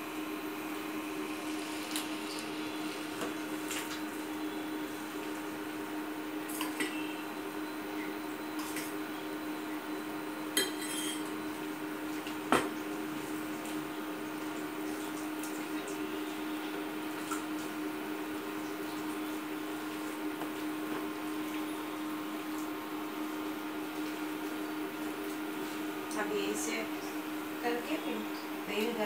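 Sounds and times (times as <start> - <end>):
induction cooktop humming: 0.0 - 29.0.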